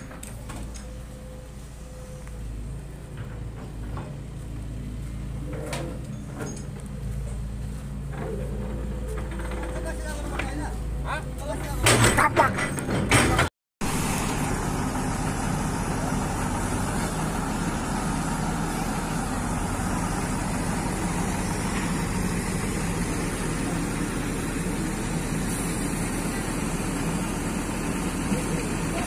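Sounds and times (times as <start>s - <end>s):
heavy diesel engines running: 0.0s - 29.0s.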